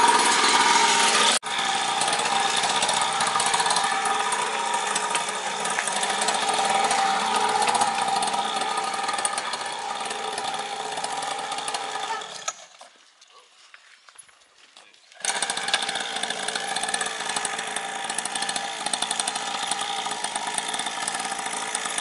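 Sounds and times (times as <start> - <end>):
dirt bike engine idling: 0.0 - 12.4, 15.2 - 22.0
engine pull start: 0.0 - 12.8, 15.2 - 22.0.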